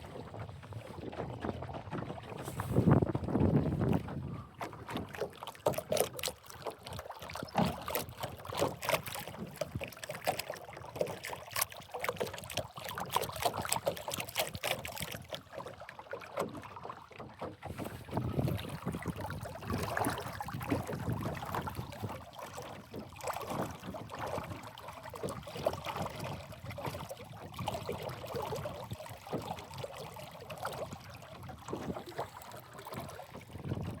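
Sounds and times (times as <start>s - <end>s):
water slapping against boat hull: 0.0s - 34.0s.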